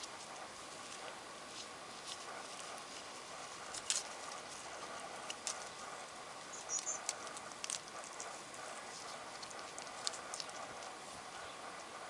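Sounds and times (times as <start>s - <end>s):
porcupine chewing leaf: 0.0s - 12.0s.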